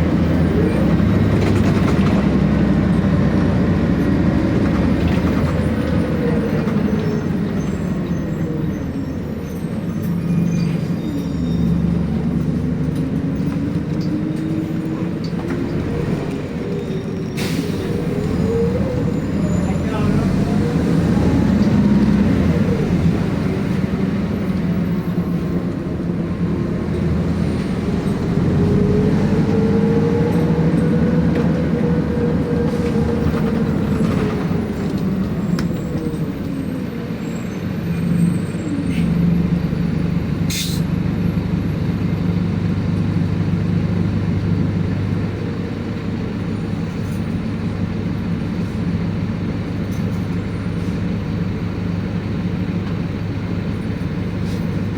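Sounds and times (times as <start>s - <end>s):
bus engine humming: 0.0s - 54.9s.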